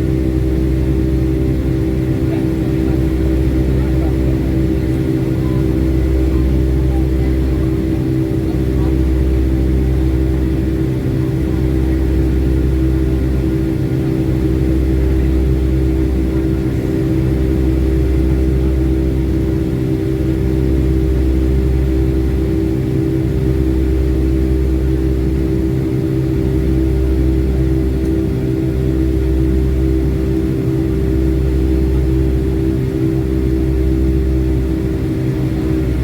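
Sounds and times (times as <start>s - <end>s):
airplane cabin engine drone: 0.0s - 36.0s.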